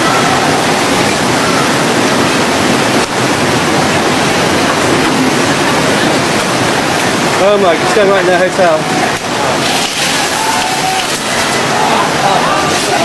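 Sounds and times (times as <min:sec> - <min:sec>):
floodwater rushing and churning: 0:00.0 - 0:13.0.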